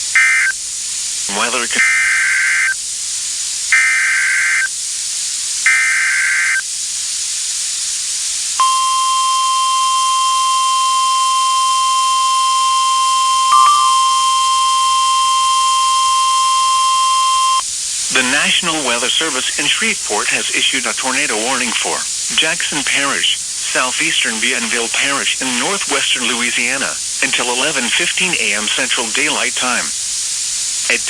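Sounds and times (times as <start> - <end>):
screechy data bursts: 0.0 - 0.6, 1.3 - 2.8, 3.7 - 4.7, 5.7 - 6.6, 8.6 - 30.1
steady warning alarm tone: 0.0 - 0.6, 1.3 - 2.8, 3.8 - 4.7, 5.7 - 6.6, 8.6 - 29.8.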